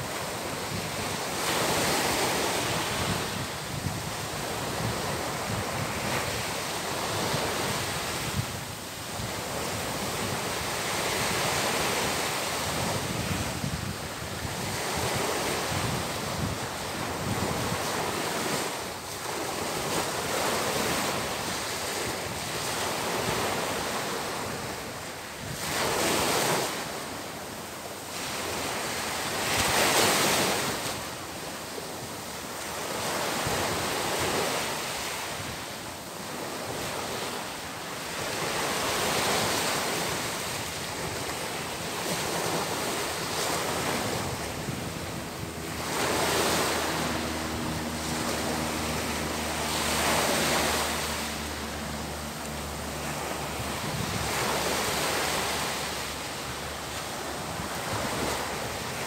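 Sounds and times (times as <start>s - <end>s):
waves washing up a beach: 0.0s - 59.0s.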